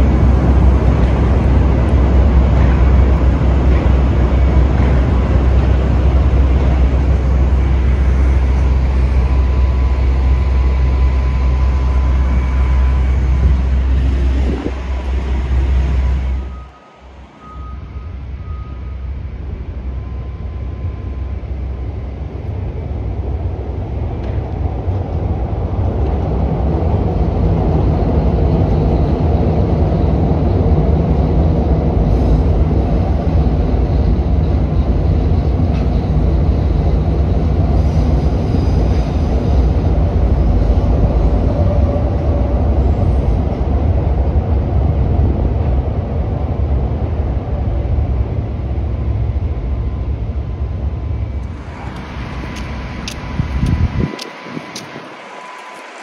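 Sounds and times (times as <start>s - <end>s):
electric train passing: 0.0s - 56.0s.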